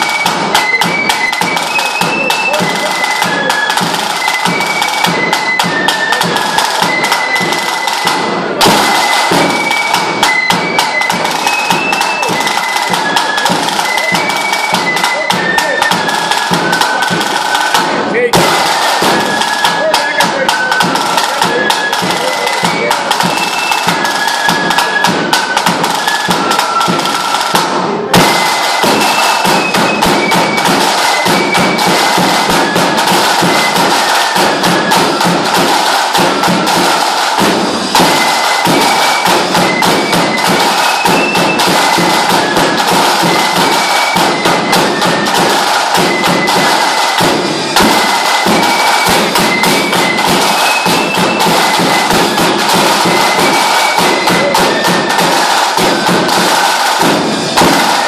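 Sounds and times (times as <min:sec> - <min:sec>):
high melody of held notes: 0:00.0 - 0:58.0
large drum beaten with canes: 0:00.0 - 0:58.0.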